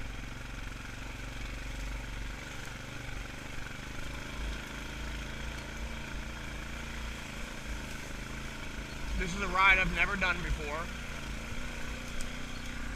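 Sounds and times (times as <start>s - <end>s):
atv engine running: 0.0s - 12.9s.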